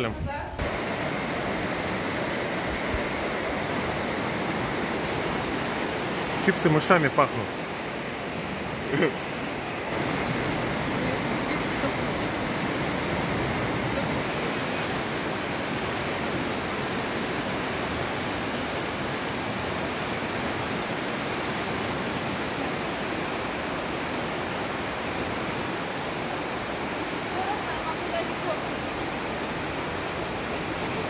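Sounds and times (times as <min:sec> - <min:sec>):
river rushing through gorge: 0:00.6 - 0:31.0.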